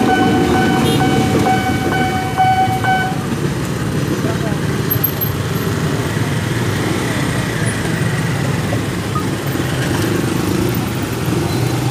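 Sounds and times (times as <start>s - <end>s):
cars running: 0.0s - 11.9s
scooter and motorcycle engines: 0.0s - 11.9s.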